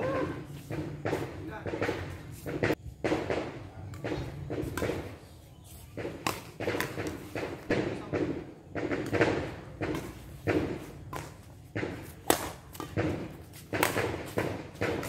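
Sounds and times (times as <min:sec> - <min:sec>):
rackets hitting shuttlecock: 0:00.0 - 0:15.0.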